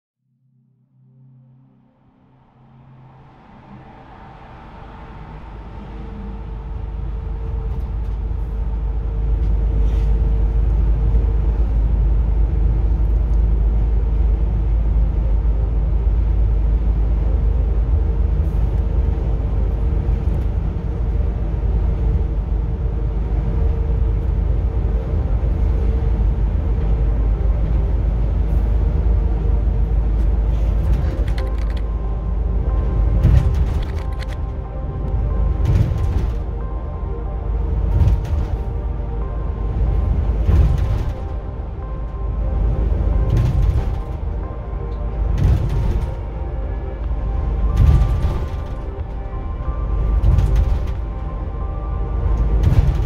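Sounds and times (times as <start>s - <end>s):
bus road rumble and engine hum: 0.9s - 53.0s.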